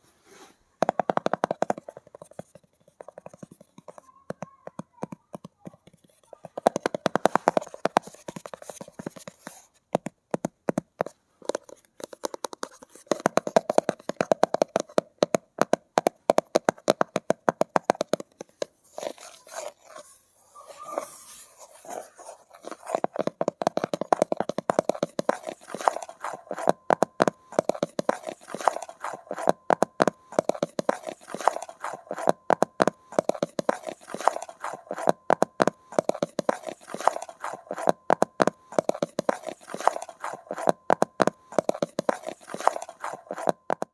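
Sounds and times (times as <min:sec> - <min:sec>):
scratching on hard objects: 0:00.2 - 0:09.8, 0:11.0 - 0:43.9
rapid tapping on hard objects: 0:00.8 - 0:20.0, 0:21.8 - 0:43.9.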